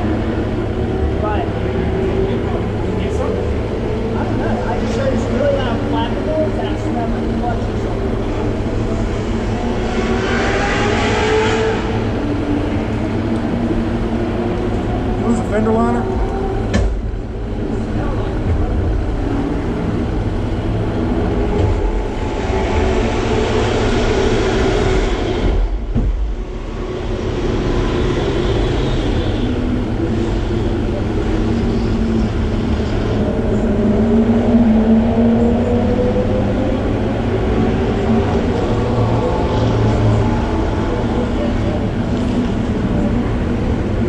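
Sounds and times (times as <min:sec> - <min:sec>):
car engines rumbling: 0:00.0 - 0:44.0.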